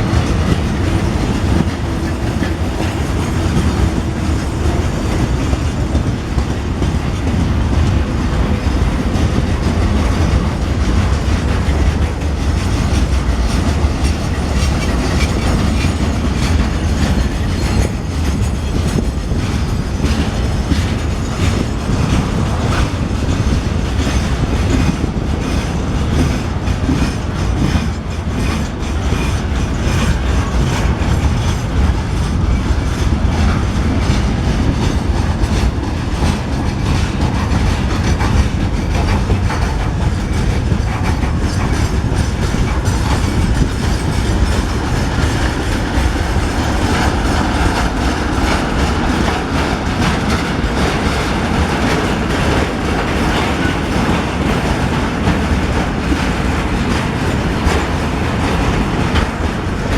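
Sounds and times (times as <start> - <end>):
train rumbling: 0.0 - 59.9
train wheels clacking: 0.0 - 59.9.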